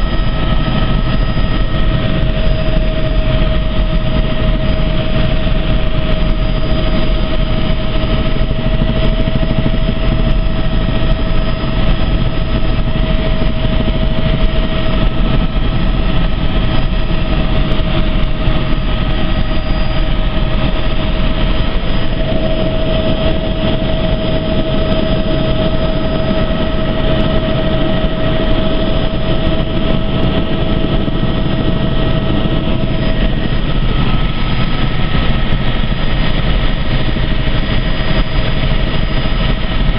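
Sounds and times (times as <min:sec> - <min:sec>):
constant whine: 0:00.0 - 0:39.9
helicopter engine and rotor drone: 0:00.0 - 0:39.9.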